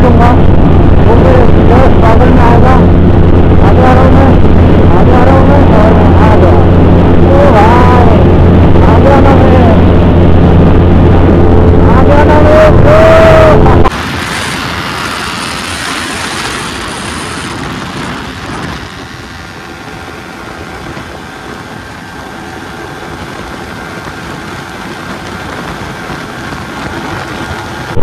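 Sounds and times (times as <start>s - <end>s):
motorcycle engine at high speed: 0.0s - 12.5s, 13.1s - 28.0s
wind rushing: 0.0s - 28.0s.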